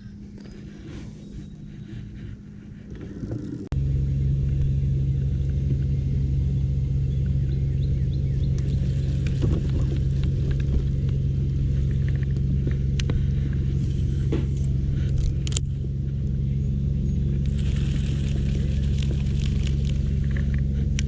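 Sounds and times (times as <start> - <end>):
electric motor hum: 0.0 - 21.0.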